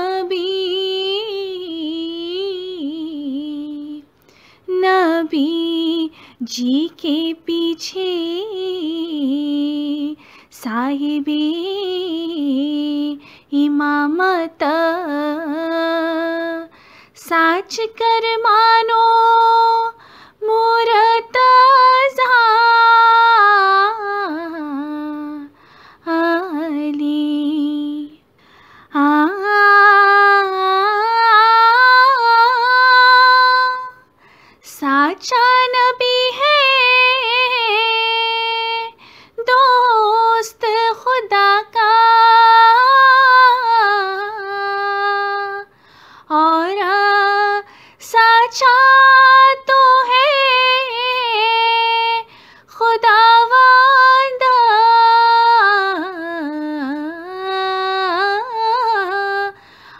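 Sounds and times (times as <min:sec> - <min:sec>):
woman singing unaccompanied: 0:00.0 - 0:59.7.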